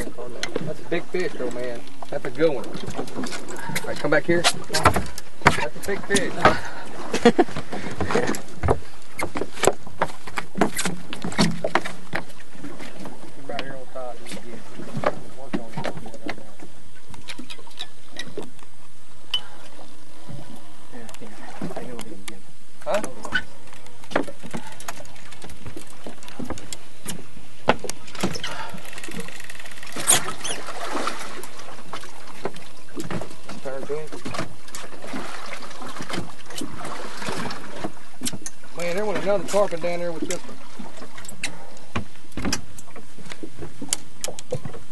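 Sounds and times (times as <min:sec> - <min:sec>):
water: 0:00.0 - 0:44.9
wind: 0:00.0 - 0:44.9
knocks and clicks on boat: 0:01.4 - 0:06.7, 0:07.4 - 0:19.7, 0:21.0 - 0:30.7, 0:31.4 - 0:35.2, 0:35.9 - 0:44.9.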